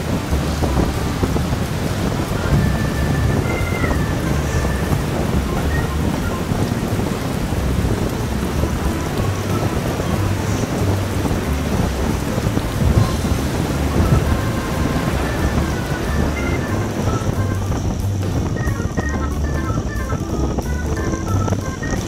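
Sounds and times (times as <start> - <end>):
tyres hissing on wet asphalt: 0.0 - 22.0
wind roar on microphone: 0.0 - 22.0.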